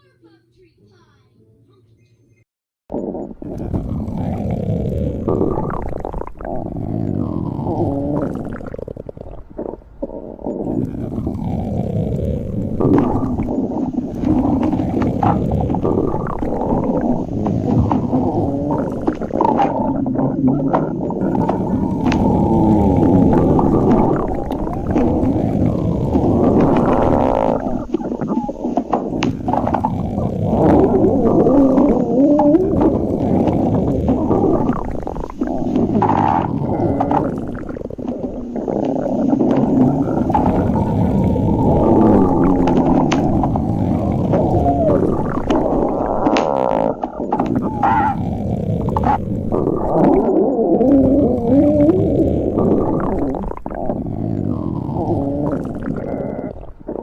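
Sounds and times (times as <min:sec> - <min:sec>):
stomach growling: 0:02.9 - 0:57.0.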